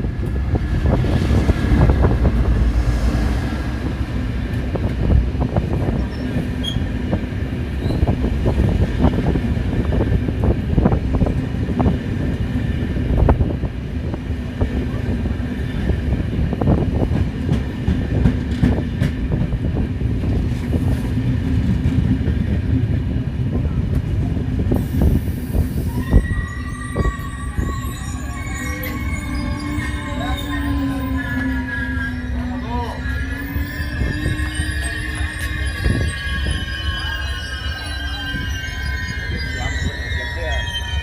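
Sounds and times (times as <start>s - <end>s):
train rumbling along track: 0.0s - 41.0s.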